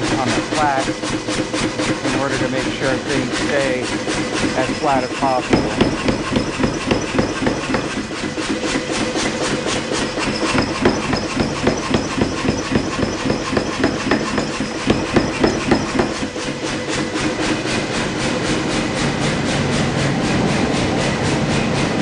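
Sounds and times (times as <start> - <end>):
hammer blows on hot metal: 0.0 - 22.0.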